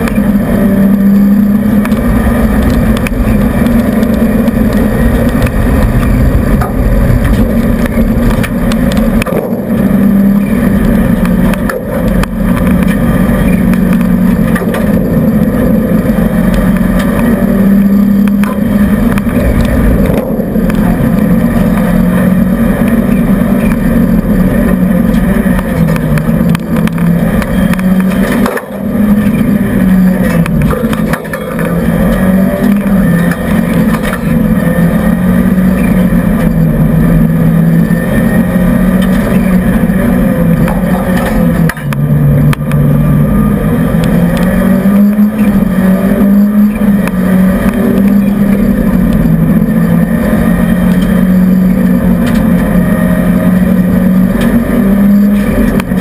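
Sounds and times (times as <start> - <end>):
car engine at speed: 0.0 - 56.0.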